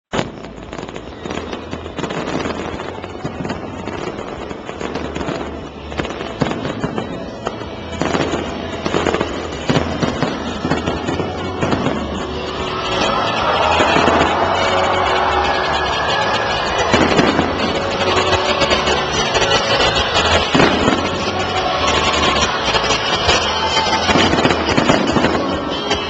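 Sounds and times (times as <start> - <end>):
fireworks bangs and crackles: 0.1 - 26.0.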